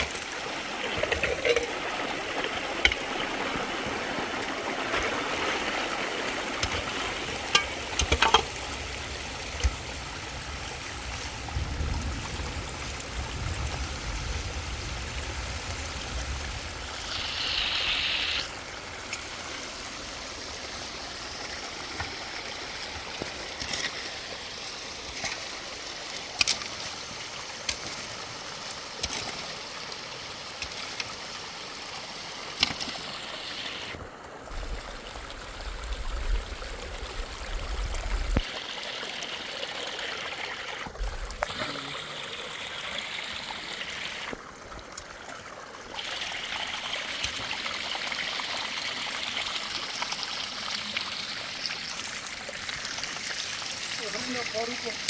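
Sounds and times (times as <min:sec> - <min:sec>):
water dripping: 0:00.0 - 0:14.2, 0:15.3 - 0:38.5, 0:40.7 - 0:55.0
running water rushing: 0:00.0 - 0:55.0.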